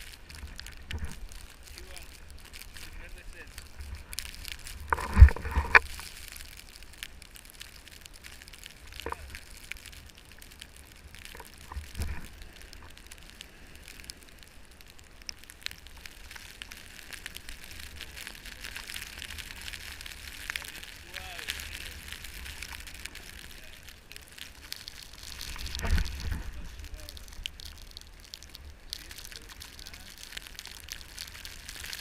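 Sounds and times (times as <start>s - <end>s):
crunching in snow: 0.0s - 32.0s.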